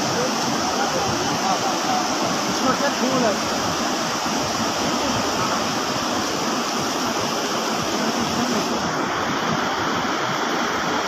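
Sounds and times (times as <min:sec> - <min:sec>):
rush of flood water: 0:00.0 - 0:11.0.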